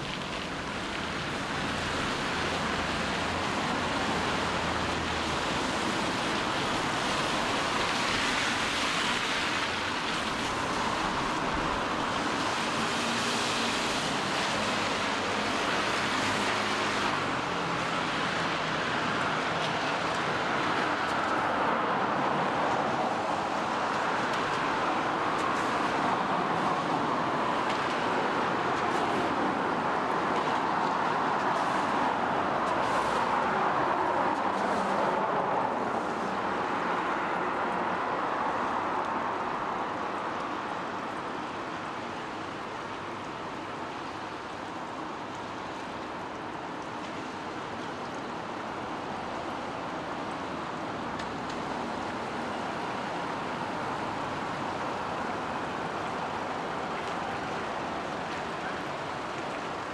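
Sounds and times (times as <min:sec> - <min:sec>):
tyres hissing on wet road: 0:00.0 - 0:59.9.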